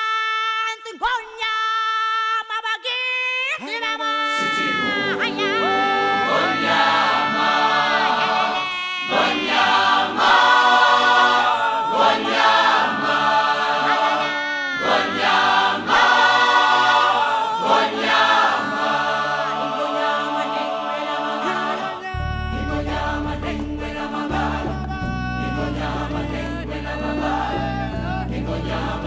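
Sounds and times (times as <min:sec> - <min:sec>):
choir chanting in harmony: 0:04.4 - 0:29.0.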